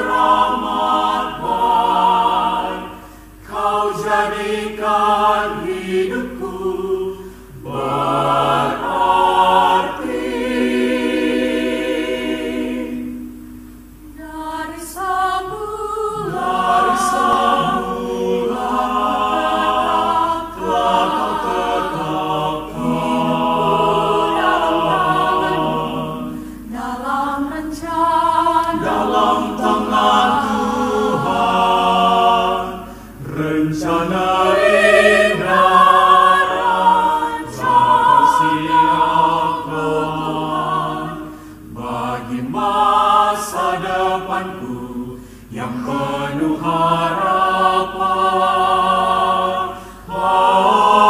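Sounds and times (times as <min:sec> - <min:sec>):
mixed choir singing a cappella: 0:00.0 - 0:51.0.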